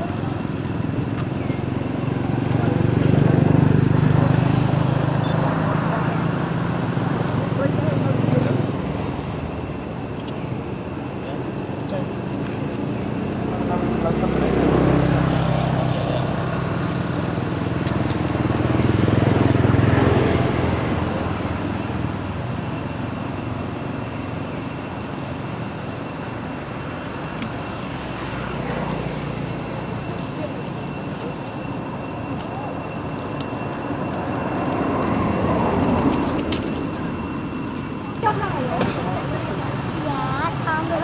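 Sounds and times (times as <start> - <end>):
vehicle engine hum: 0.0 - 41.0.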